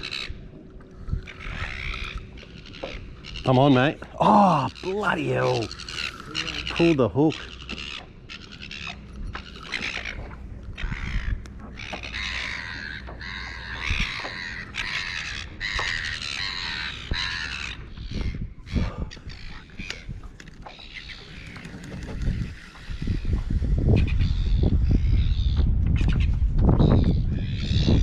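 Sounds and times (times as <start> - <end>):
chorus of bird calls: 0.0 - 28.0.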